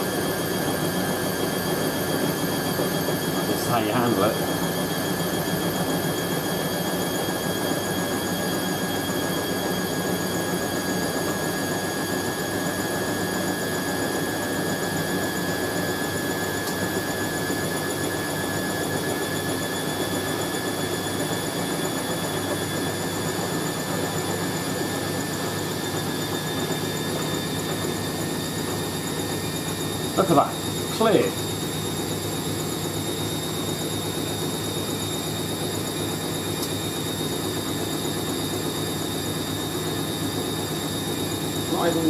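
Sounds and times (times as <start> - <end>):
washing machine motor whine: 0.0 - 42.0.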